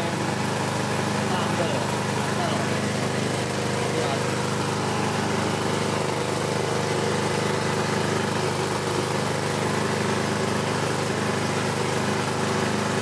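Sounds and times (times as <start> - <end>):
engine-driven grinder running: 0.0 - 13.0.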